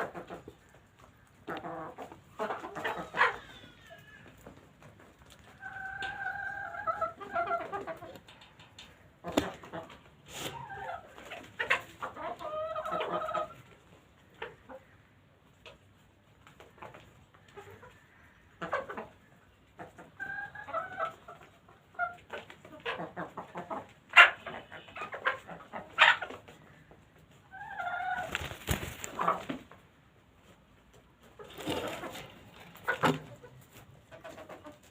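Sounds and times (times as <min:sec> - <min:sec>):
chicken calls: 0:00.0 - 0:34.9
chickens pecking feed: 0:00.0 - 0:34.9.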